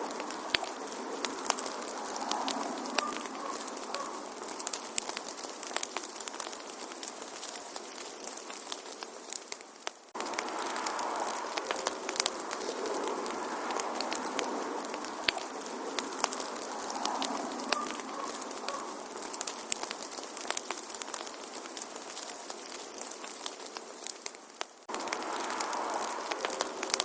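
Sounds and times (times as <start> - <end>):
hiss of flame: 0.0 - 27.0
wood fire crackling: 0.0 - 27.0.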